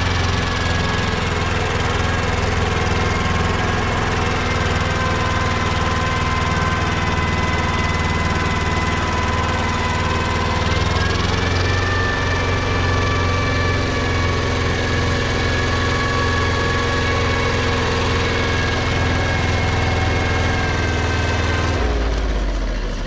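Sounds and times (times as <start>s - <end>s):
tractor engine drone: 0.0s - 23.0s.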